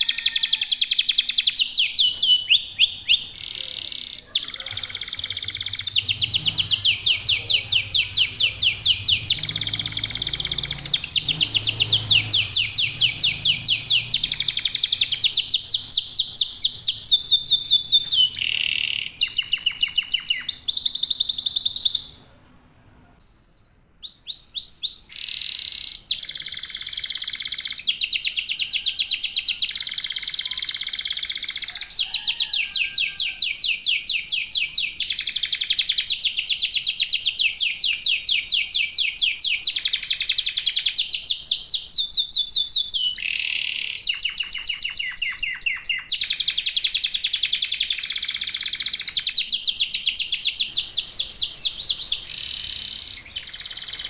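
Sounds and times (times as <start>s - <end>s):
canary singing trills: 0.0s - 22.3s, 23.6s - 54.0s.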